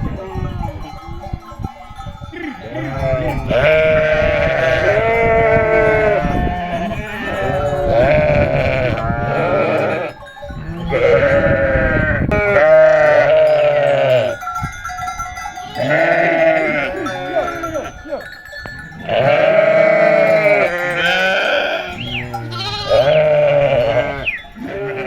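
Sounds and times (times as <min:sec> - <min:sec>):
sheep bleating: 0:02.4 - 0:14.4, 0:15.7 - 0:18.0, 0:19.0 - 0:25.0.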